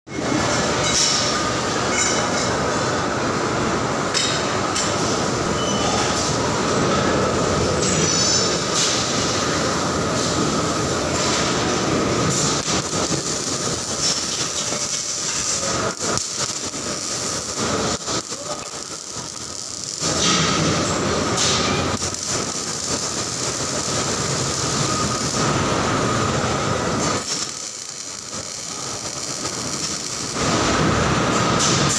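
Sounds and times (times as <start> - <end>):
arc welding: 0.1 - 31.9
factory machinery humming: 0.1 - 31.9.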